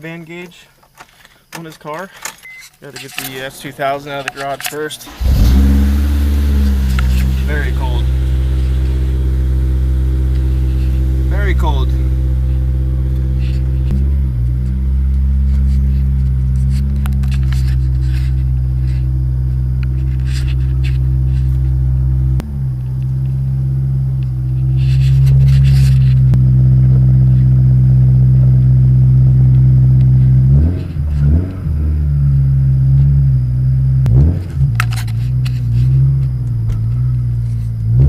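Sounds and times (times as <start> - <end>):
car engine idling: 3.1 - 38.0
engine revving: 3.5 - 38.0.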